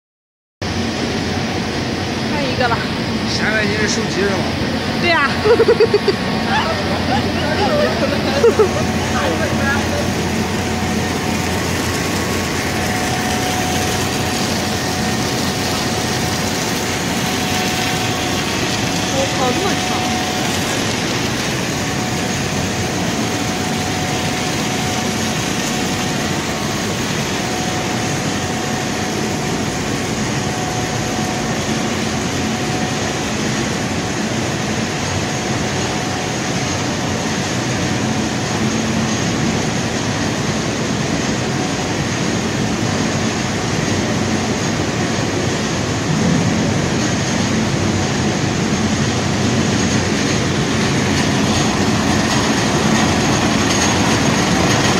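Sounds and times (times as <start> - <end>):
faint machine whine: 0.6 - 54.9
production line machinery running: 0.6 - 54.9.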